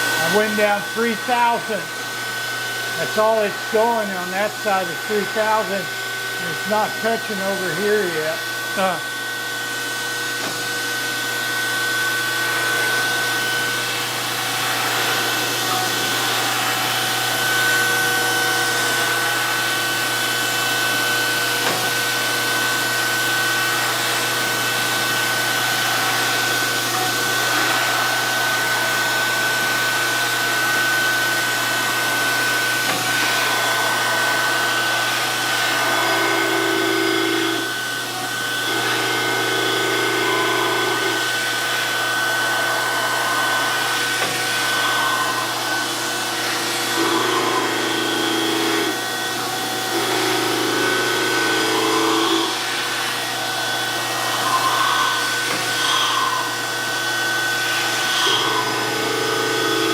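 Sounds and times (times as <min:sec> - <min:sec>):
surface grinder whining: 0:00.0 - 0:59.9.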